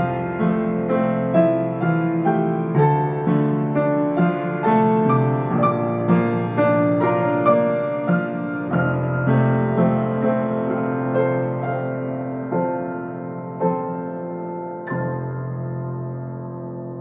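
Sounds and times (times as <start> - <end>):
gentle piano chords and melody: 0.0 - 17.0.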